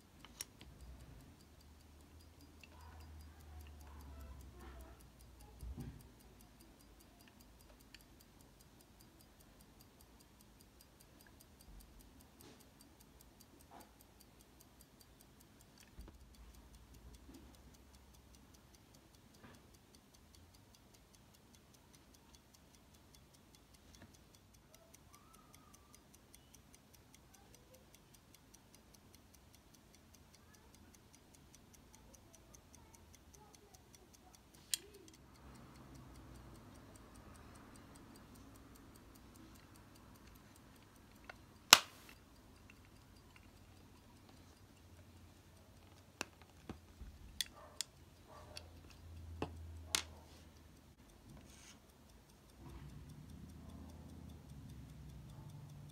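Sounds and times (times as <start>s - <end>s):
pocket watch ticking: 0.0s - 55.9s.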